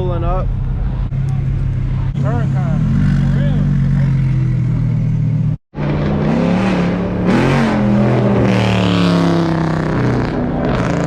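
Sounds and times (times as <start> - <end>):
car engine revving: 0.9 - 11.0.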